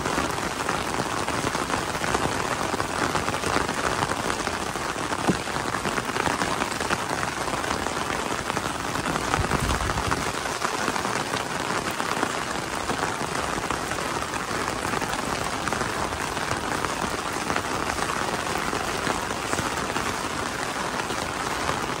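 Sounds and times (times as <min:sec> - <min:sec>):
rain on an umbrella: 0:00.0 - 0:22.0.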